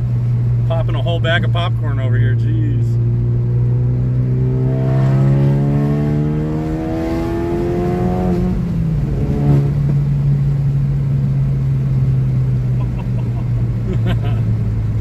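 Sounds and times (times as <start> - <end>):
car exhaust under acceleration: 0.0 - 15.0
steady low drone: 0.0 - 15.0.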